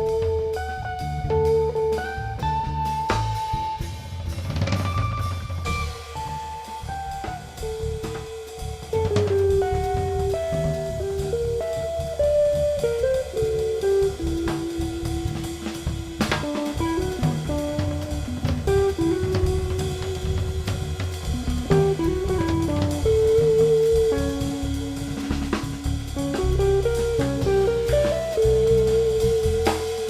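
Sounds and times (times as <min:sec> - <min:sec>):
drums and cymbal hits: 0:00.0 - 0:30.0
guitar: 0:00.0 - 0:30.0.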